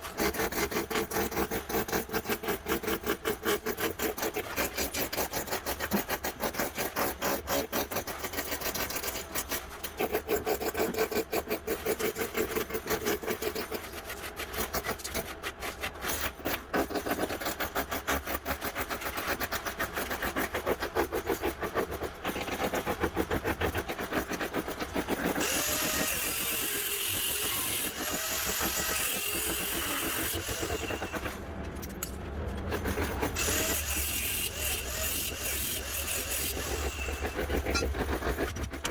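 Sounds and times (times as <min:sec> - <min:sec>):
tool rasping on wood: 0:00.0 - 0:31.4, 0:32.5 - 0:38.9.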